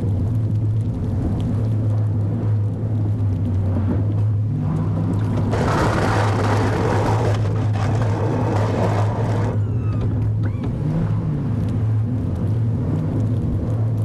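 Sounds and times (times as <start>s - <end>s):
broad rushing noise: 0.0s - 14.0s
pickup truck engine drone: 0.0s - 14.0s.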